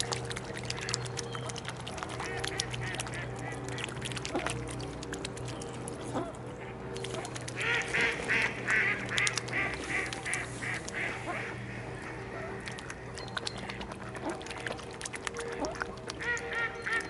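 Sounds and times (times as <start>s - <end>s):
swans splashing in water: 0.0s - 17.0s.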